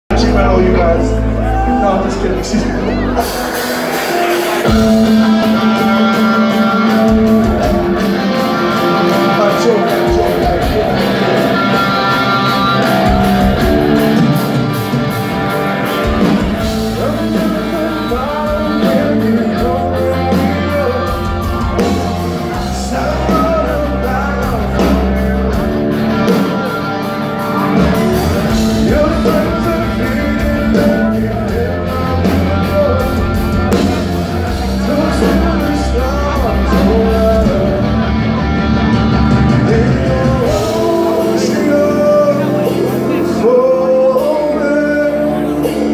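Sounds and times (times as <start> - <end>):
live rock band playing: 0.1 - 45.9
person singing: 0.2 - 45.9.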